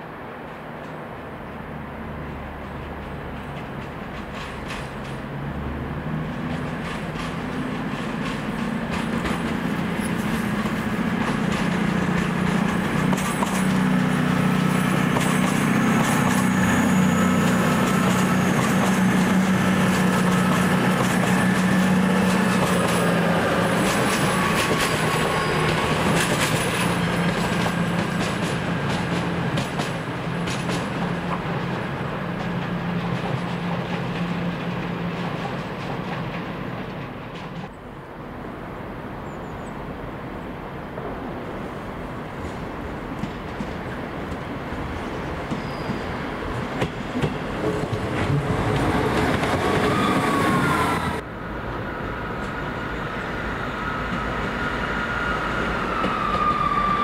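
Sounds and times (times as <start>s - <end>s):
train engine drone: 0.0s - 57.0s
wheels clacking over rail joints: 0.4s - 37.8s, 42.4s - 51.2s.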